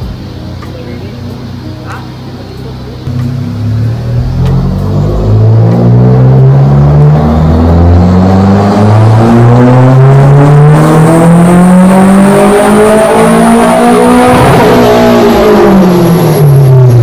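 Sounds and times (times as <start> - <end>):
turbo whine: 0.0 - 17.0
car engine revving on dyno: 3.0 - 17.0.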